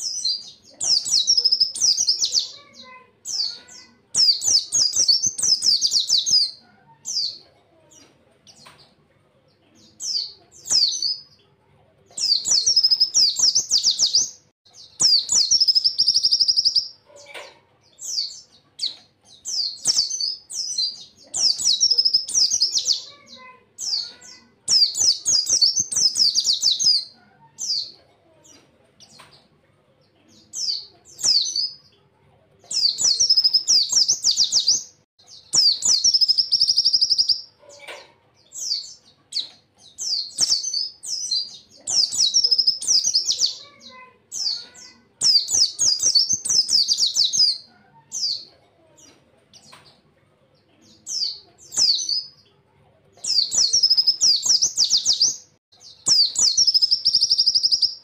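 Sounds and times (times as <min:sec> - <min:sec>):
bird twittering song: 0:00.0 - 0:09.0, 0:09.8 - 0:32.0, 0:32.6 - 0:52.6, 0:53.2 - 0:58.0.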